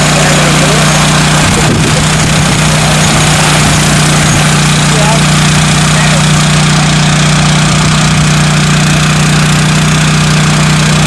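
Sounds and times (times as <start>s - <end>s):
drone rotors humming: 0.0s - 11.0s.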